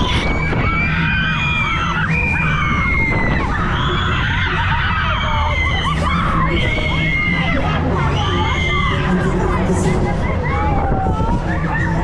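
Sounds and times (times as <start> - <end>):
crowd screaming on a ride: 0.0 - 12.0
funfair music with heavy bass: 0.0 - 12.0.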